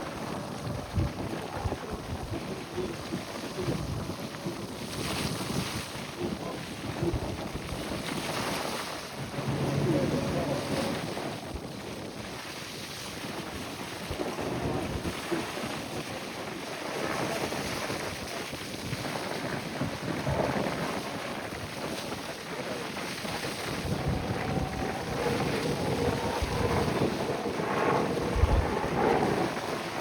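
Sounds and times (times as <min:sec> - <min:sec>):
waves: 0:00.0 - 0:30.0
wind gusting across microphone: 0:00.0 - 0:30.0.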